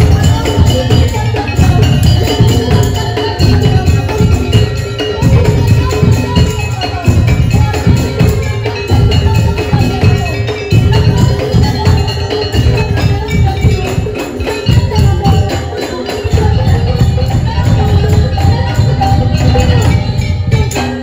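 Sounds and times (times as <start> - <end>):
heavy drum beat: 0.0 - 21.0
percussion ensemble playing: 0.0 - 21.0
wavering melody line: 0.0 - 21.0.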